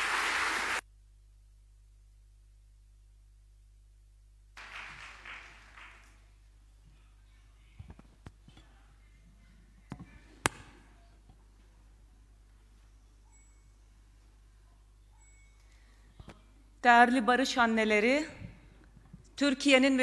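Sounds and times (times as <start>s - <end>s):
low mains hum: 0.0s - 20.0s.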